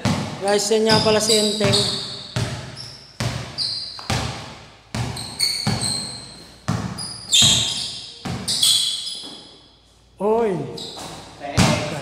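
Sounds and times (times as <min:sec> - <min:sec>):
basketball bouncing on tiled floor: 0:00.0 - 0:09.4, 0:11.6 - 0:12.0.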